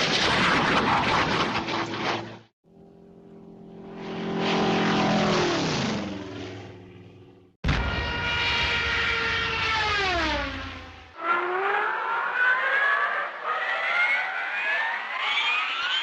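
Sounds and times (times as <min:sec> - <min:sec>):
cartoon airplane engine drone: 0:00.0 - 0:13.9
airplane drone climbing in pitch: 0:00.0 - 0:16.0.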